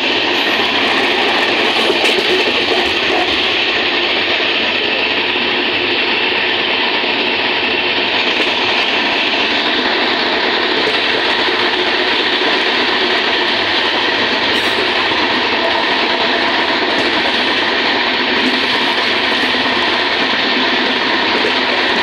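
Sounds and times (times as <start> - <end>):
passenger train running on track: 0.0 - 22.0.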